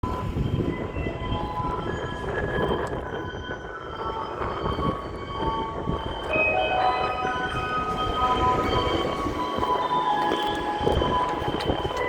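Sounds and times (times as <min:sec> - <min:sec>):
garbage truck engine rumble: 0:00.0 - 0:12.0.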